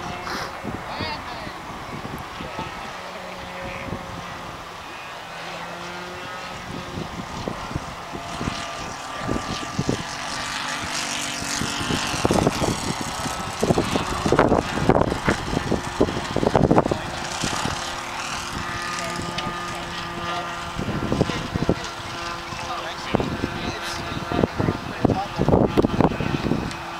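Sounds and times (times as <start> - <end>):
model airplane engine droning: 0.0 - 26.9
wind buffeting microphone: 0.0 - 26.9.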